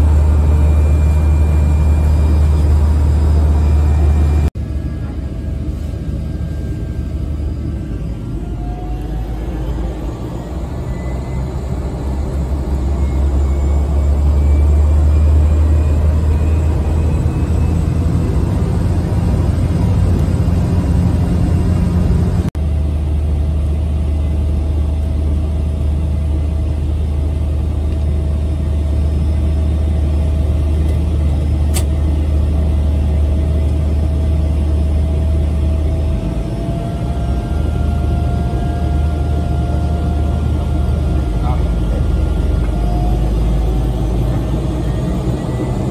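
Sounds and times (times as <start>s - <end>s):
aircraft engine drone in cabin: 0.0s - 45.9s.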